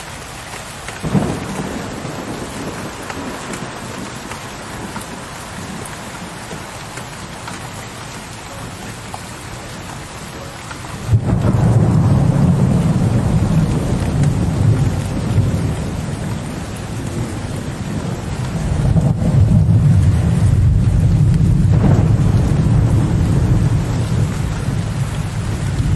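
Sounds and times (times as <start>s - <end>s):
steady rain falling: 0.0s - 25.9s
thunder clap and rumble: 0.6s - 9.3s, 10.7s - 25.9s.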